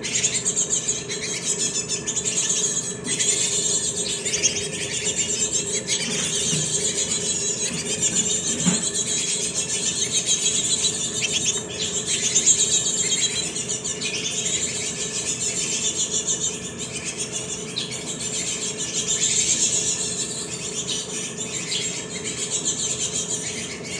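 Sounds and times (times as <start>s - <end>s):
fledgling birds chirping: 0.0s - 23.9s.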